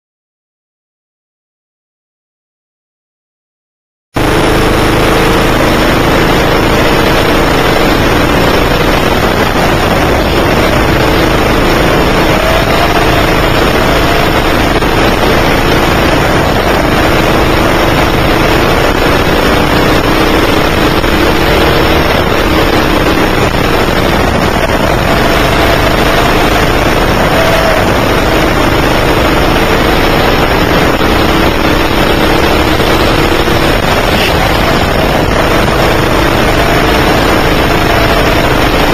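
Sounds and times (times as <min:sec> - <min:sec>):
kart engine running hard: 0:04.2 - 0:38.9.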